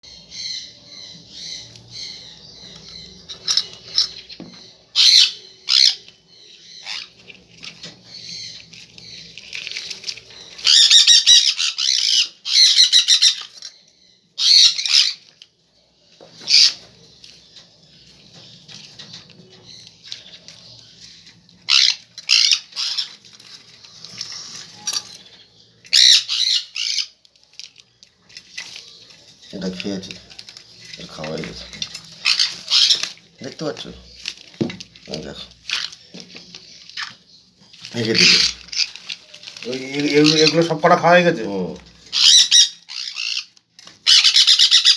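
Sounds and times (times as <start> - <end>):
baby birds squawking: 0.1 - 13.6, 14.4 - 15.3, 16.3 - 27.2, 28.6 - 44.9.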